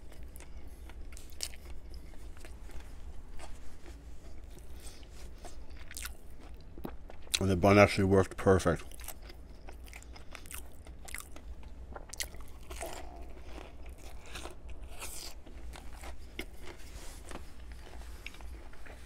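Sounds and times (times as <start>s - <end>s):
crunching and chewing fried food: 0.0s - 19.0s.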